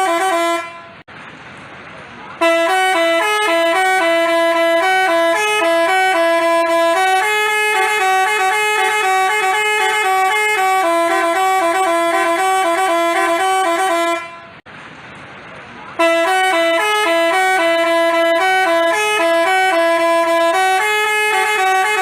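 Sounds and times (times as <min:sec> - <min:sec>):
multi-tone musical bus horn: 0:00.0 - 0:01.1, 0:02.4 - 0:14.7, 0:16.0 - 0:22.0.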